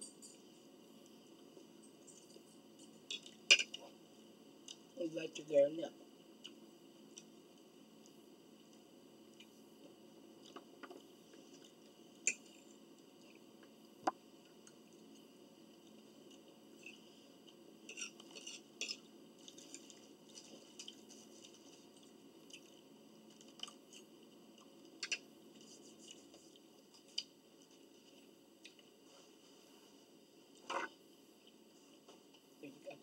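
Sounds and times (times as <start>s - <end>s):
faint chewing and crunching: 0.1s - 5.0s, 6.1s - 32.6s.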